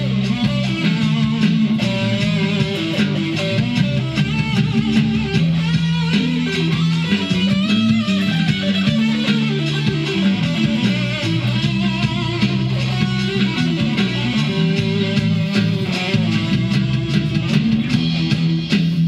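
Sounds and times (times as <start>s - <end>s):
bass notes: 0.0s - 19.0s
electric guitar lead lines: 0.0s - 19.0s.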